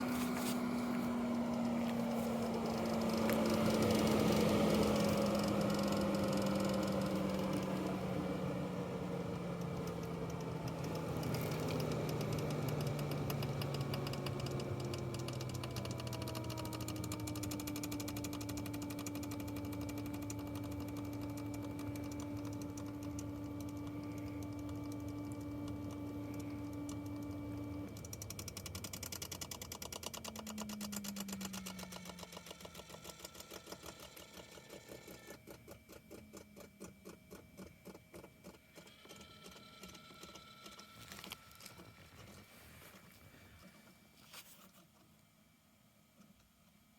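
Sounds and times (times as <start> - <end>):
blower fan hum slowing down: 0.0 - 44.6.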